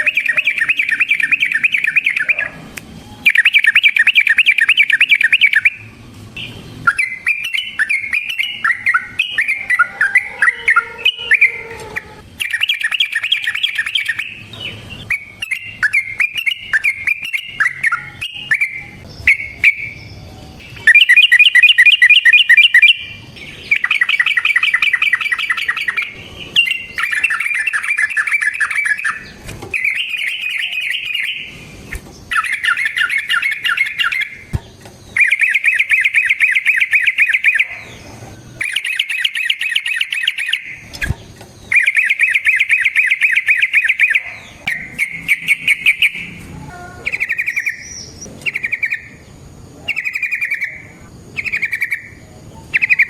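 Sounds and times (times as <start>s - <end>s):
bird singing rolling trills: 0.0s - 53.0s.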